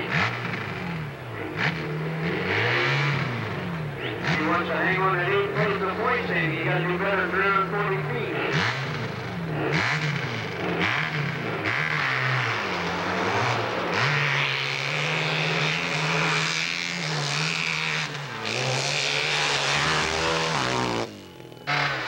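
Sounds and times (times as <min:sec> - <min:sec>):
motorcycle engine revving hard: 0:00.0 - 0:22.0.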